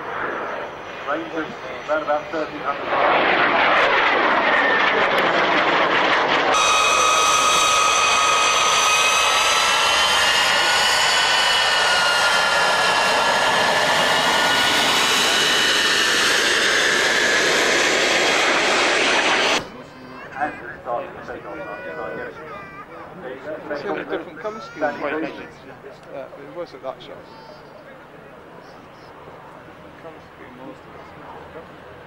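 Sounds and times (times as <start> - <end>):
jet engine whine overhead: 0.0 - 32.0.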